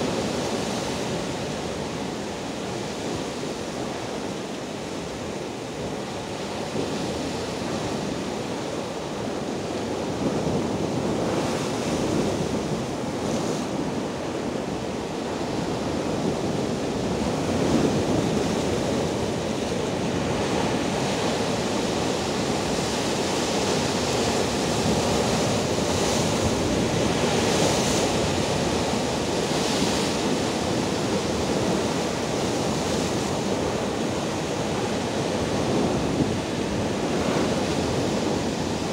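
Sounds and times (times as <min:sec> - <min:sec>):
sea surf breaking over rocks: 0:00.0 - 0:38.9.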